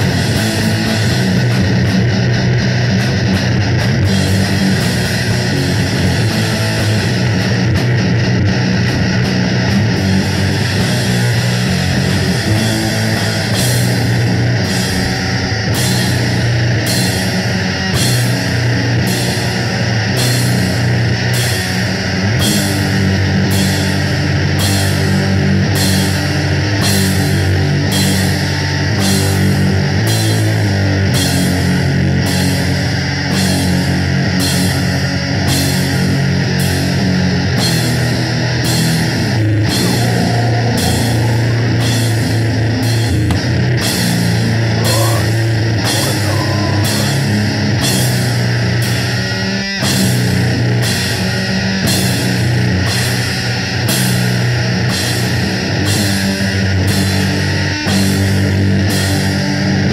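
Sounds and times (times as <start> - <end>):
heavy band playing: 0.0 - 59.9.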